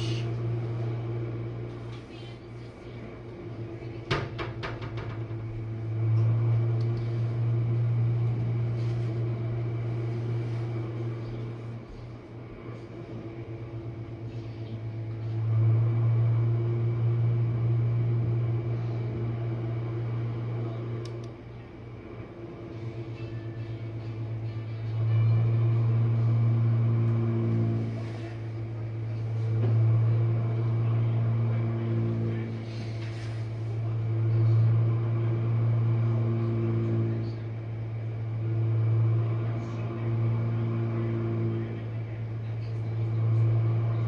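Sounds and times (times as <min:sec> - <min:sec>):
dishwasher pump hum: 0:00.0 - 0:44.0.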